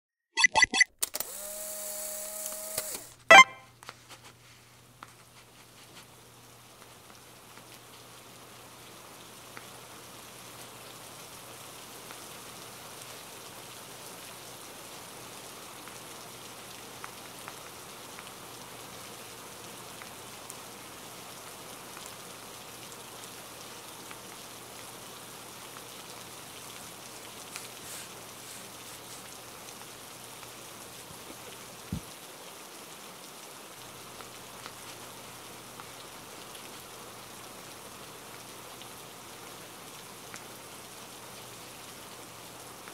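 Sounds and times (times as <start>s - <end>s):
steady rain falling: 3.7s - 42.9s.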